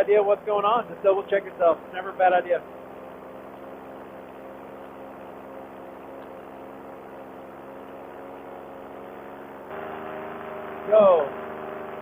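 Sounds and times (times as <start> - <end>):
paramotor engine droning: 0.0 - 12.0.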